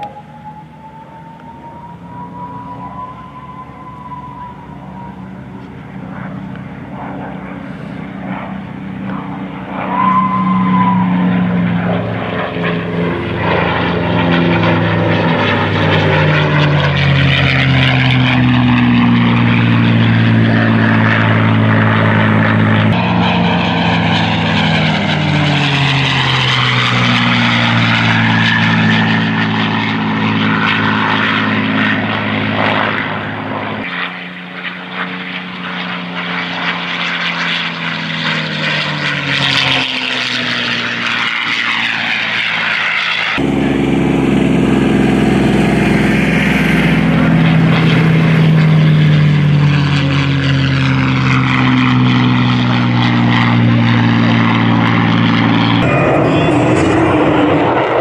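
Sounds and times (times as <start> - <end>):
propeller plane engine passing: 0.0 - 58.0.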